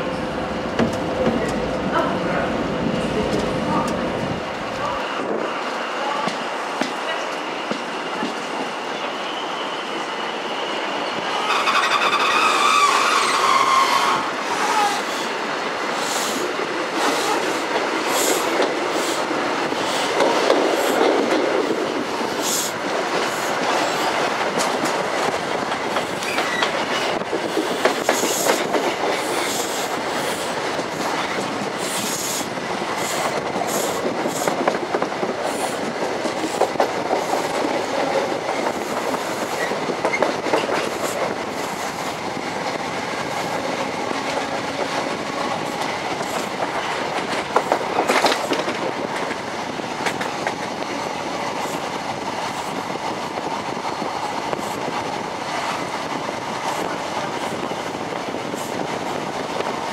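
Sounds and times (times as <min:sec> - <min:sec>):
train rush and rumble: 0:00.0 - 0:59.9.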